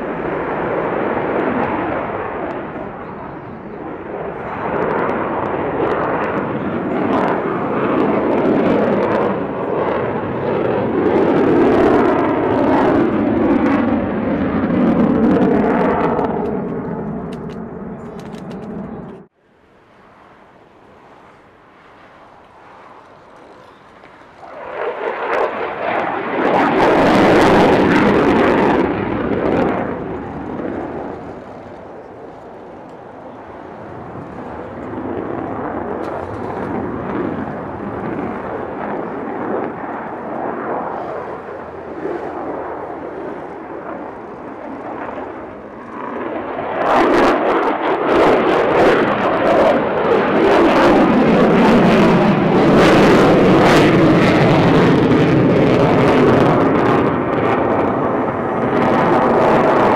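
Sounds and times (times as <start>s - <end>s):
fighter jet passing: 0.0s - 59.9s.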